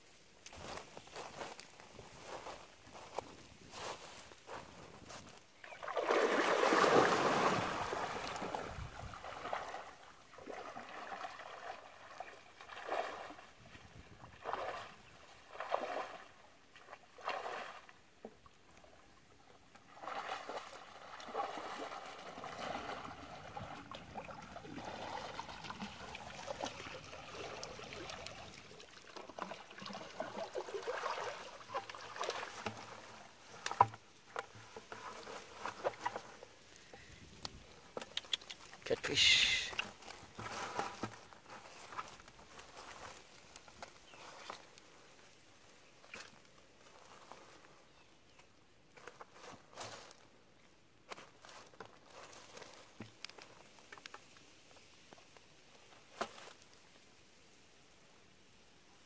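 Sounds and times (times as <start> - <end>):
water sloshing and splashing: 0.4 - 47.7.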